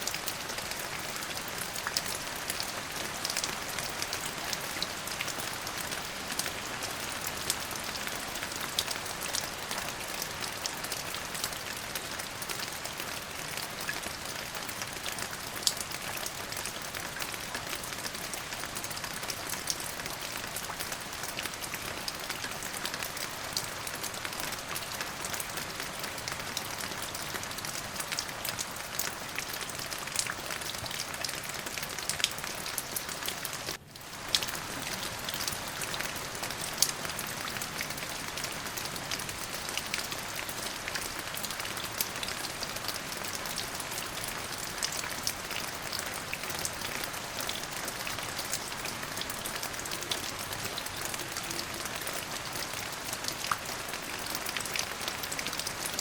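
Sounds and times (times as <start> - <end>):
rain drops ticking on a surface: 0.0 - 56.0.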